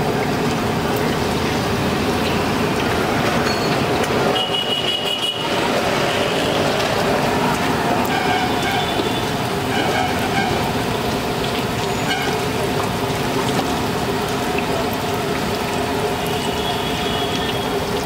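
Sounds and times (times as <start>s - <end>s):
food deep-frying in oil sizzling: 0.0s - 18.0s.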